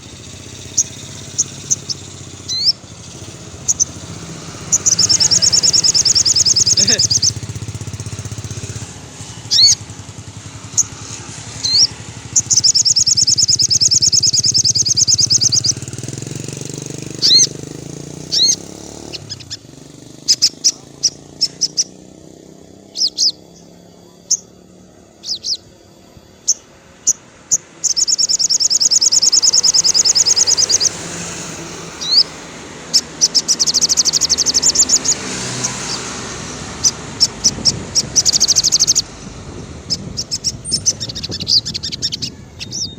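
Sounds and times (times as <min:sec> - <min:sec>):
bird trilling and chirping: 0:00.0 - 0:42.9
low engine hum: 0:00.0 - 0:42.9.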